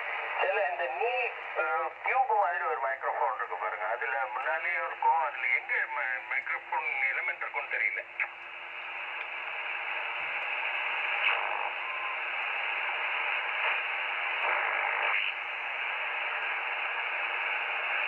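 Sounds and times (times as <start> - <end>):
radio loudspeaker hissing: 0.0 - 18.0
snatches of radio signals: 0.0 - 18.0.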